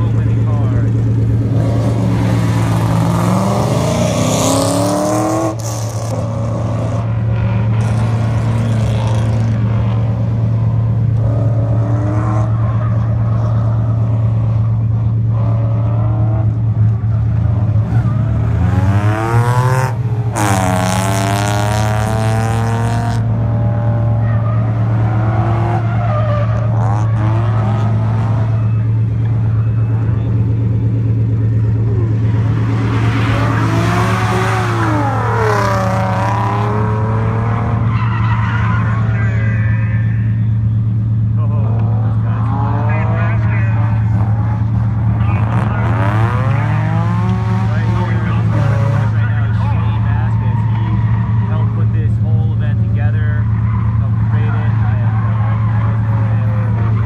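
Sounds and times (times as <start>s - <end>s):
car engines revving hard: 0.0s - 57.0s
tires squealing: 0.0s - 57.0s.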